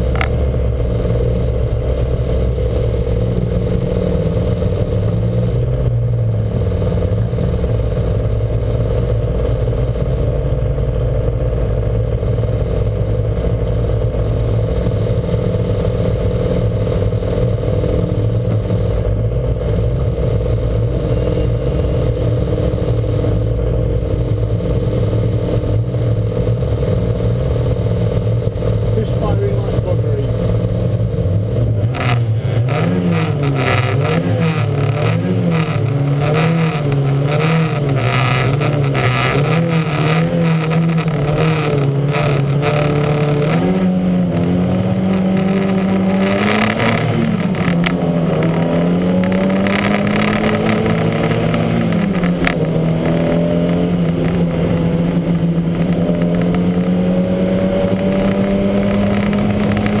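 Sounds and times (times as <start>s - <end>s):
gear changes: 0.0s - 60.0s
race car engine accelerating: 0.0s - 60.0s.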